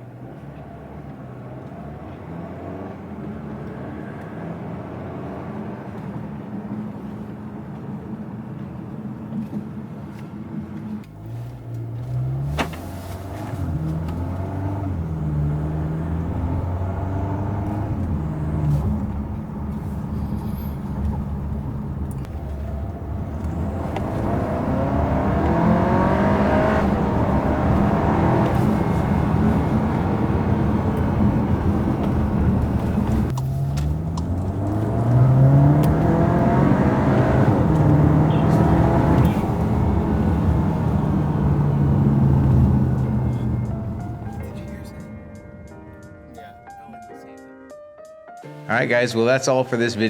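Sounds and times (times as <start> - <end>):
car engine and exhaust revving: 0.0 - 7.8, 10.8 - 46.5.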